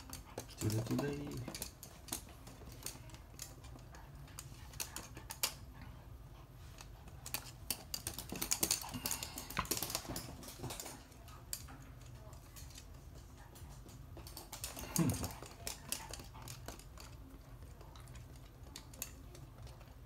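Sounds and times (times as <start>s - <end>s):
dog claws clicking on hard floor: 0.0s - 20.0s.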